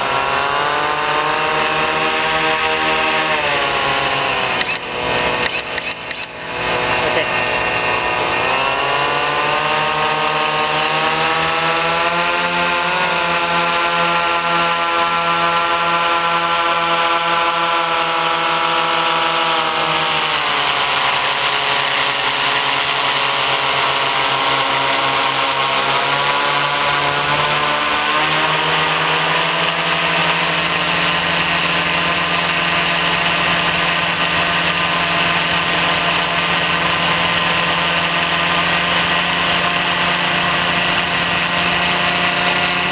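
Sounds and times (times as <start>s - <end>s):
propeller motors whining: 0.0s - 42.9s.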